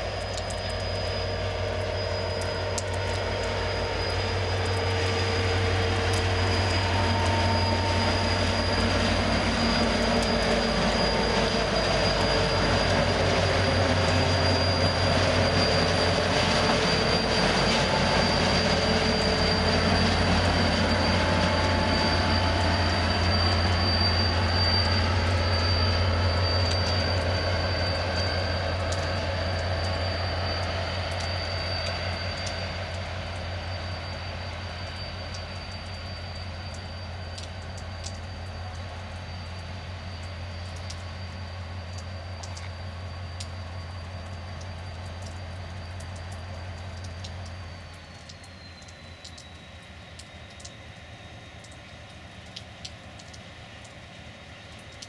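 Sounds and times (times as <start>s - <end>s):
diesel locomotive engine: 0.0s - 55.0s
wheels rumbling on rails: 0.0s - 55.0s
wheel squeal: 0.5s - 51.5s.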